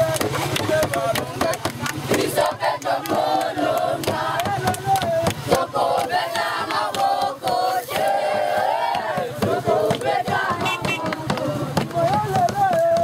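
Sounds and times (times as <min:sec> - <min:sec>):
crowd singing and chanting: 0:00.0 - 0:13.0
people shouting: 0:01.3 - 0:13.0.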